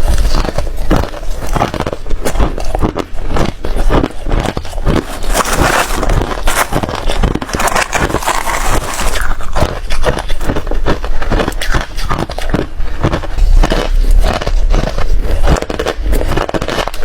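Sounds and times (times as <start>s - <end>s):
chewing hard ice: 0.0s - 17.0s.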